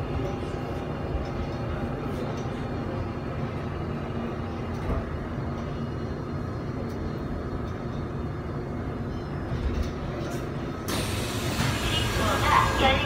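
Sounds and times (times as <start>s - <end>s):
subway train running noise: 0.0s - 13.0s.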